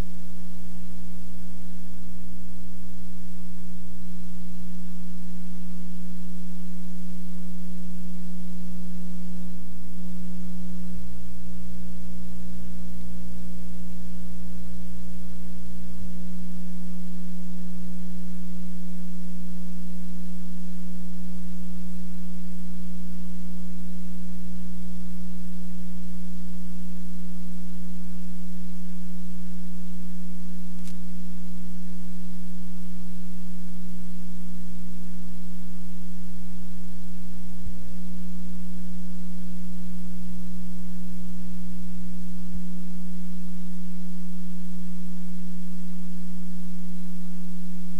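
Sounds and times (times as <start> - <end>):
low electrical hum: 0.0 - 47.9.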